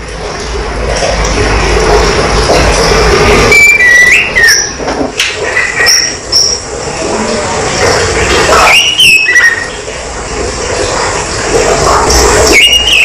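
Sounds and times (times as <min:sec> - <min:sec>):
steady noisy hum: 0:00.0 - 0:13.0.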